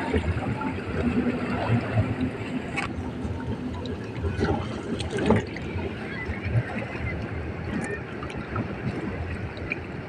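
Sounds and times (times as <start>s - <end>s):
water noise: 0.0s - 10.0s
wind on microphone: 0.0s - 10.0s.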